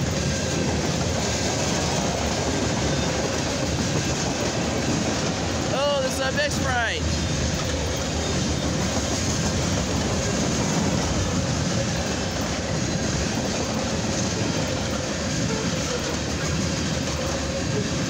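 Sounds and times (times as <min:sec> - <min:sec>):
steel wheels running on rail: 0:00.0 - 0:18.0.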